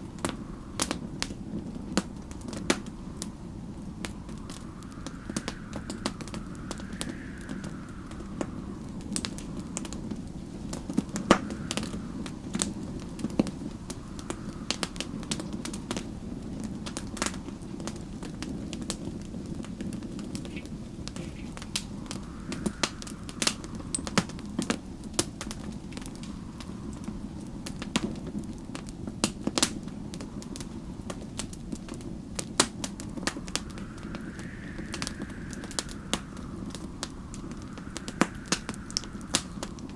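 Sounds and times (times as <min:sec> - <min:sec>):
low rumble: 0:00.0 - 0:17.2, 0:19.7 - 0:27.7, 0:31.8 - 0:39.9
wind whistling in gusts: 0:00.0 - 0:39.9
wood fire crackling and popping: 0:00.0 - 0:39.9.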